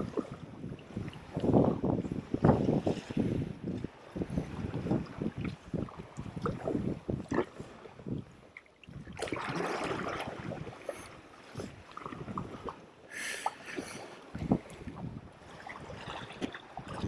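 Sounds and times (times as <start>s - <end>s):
wind buffeting microphone: 0.0s - 12.9s, 13.6s - 17.0s
paddle blades splashing: 0.0s - 17.0s.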